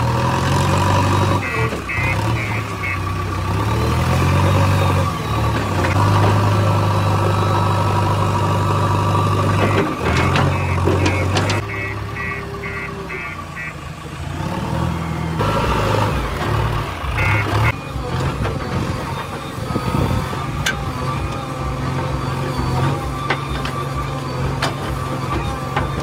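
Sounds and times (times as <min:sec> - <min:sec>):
diesel engine under load: 0:00.0 - 0:26.0
reversing alarm beeping: 0:01.1 - 0:14.0, 0:17.0 - 0:26.0.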